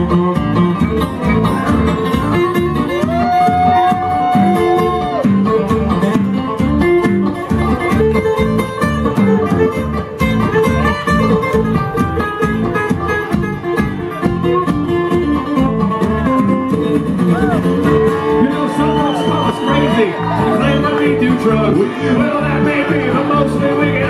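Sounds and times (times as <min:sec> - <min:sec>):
bluegrass band playing: 0:00.0 - 0:24.0
lead guitar: 0:00.0 - 0:24.0.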